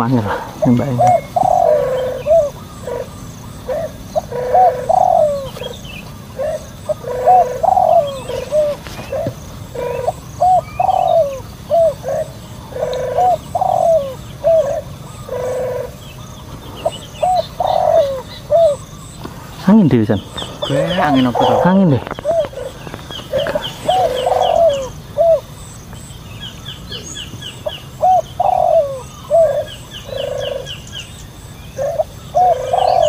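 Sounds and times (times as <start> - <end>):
dove cooing: 0.0 - 33.0
small birds chirping: 0.0 - 33.0.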